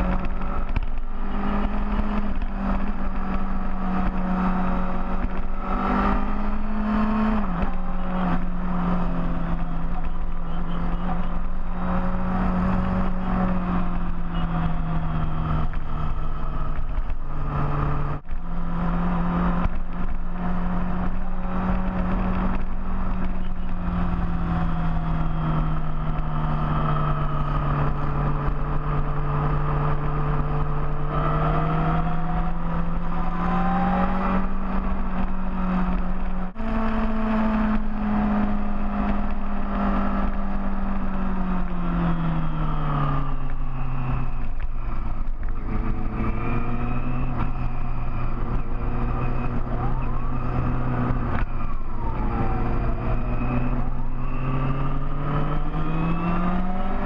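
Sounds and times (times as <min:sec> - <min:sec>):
motorcycle engine running: 0:00.0 - 0:57.0
road rumble: 0:00.0 - 0:57.0
wind: 0:00.0 - 0:57.0.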